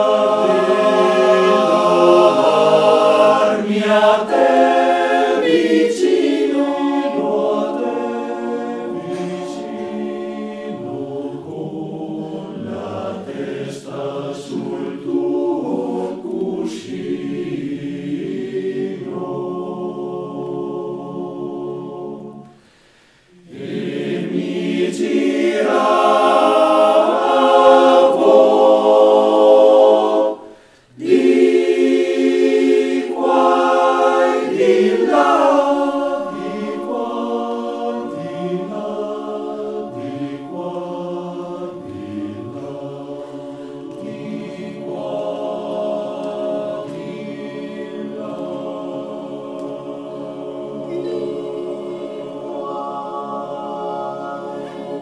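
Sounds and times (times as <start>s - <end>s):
male choir singing a cappella: 0.0s - 55.0s.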